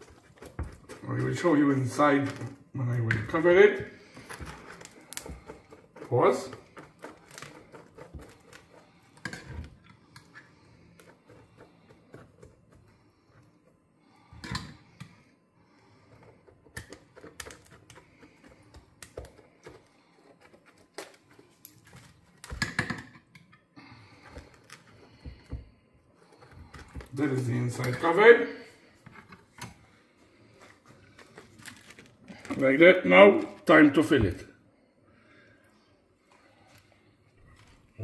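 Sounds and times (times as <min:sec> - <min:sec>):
bread crust crackling: 0:00.0 - 0:22.8, 0:23.8 - 0:29.0, 0:29.8 - 0:34.4.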